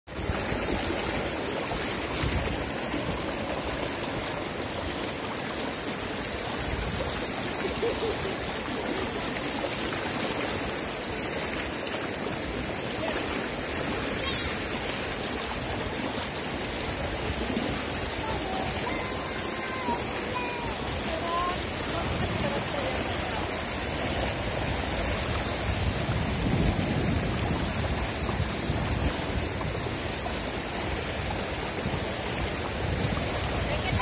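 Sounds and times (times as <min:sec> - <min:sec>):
river rushing over stones: 0:00.1 - 0:34.0.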